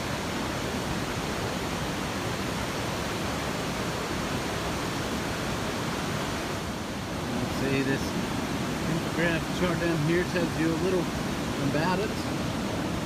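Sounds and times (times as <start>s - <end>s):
river and waterfall roaring: 0.0s - 13.0s.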